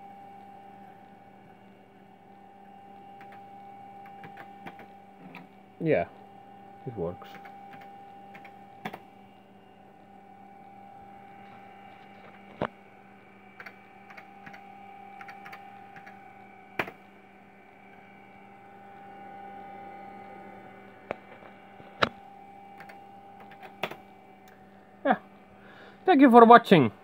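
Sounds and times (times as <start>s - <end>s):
computer electrical hum: 0.0s - 27.0s.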